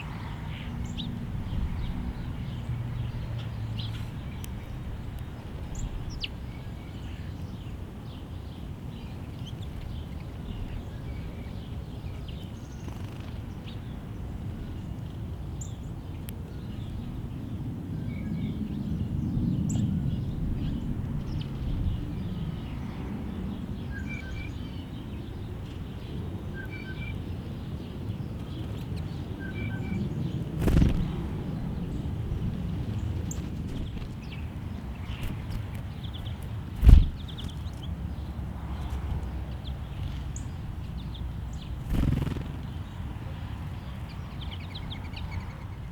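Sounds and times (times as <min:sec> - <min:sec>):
songbirds chirping: 0:00.0 - 0:45.9.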